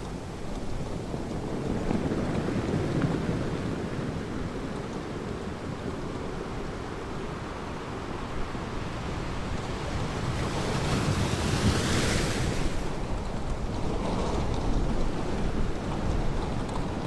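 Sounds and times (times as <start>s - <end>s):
ocean waves breaking on beach: 0.0s - 17.0s
wind noise on microphone: 0.0s - 17.0s.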